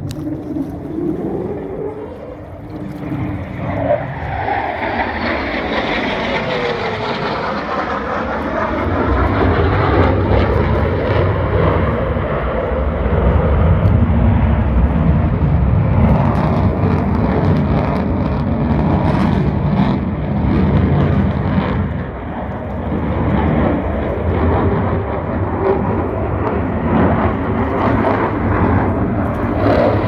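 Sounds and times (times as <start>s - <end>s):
plane flying over: 0.0s - 30.0s.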